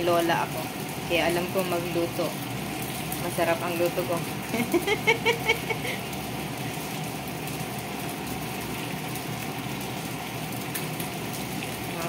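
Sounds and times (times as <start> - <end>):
broth bubbling in pot: 0.0 - 12.0
fish sizzling in oil: 0.0 - 12.0.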